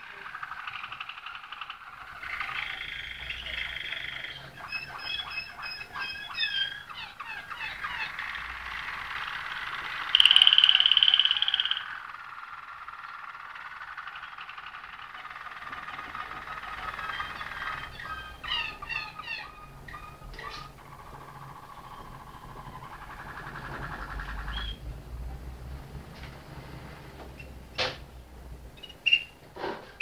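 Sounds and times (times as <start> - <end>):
canary singing: 0.0 - 24.9, 28.8 - 29.4.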